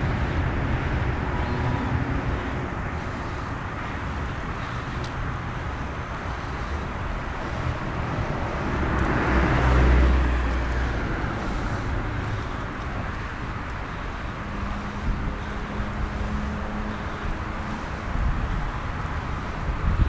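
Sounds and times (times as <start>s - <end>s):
road traffic rumble: 0.0s - 20.0s
car passing: 0.9s - 19.7s.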